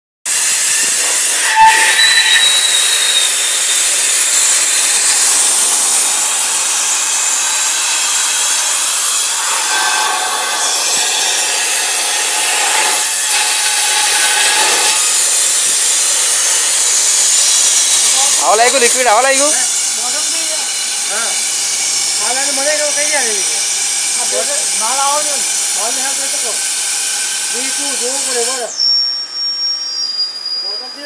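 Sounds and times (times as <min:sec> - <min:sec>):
gas hissing from hose: 0:00.3 - 0:29.9
knock and squeal: 0:00.4 - 0:15.3, 0:20.7 - 0:30.8.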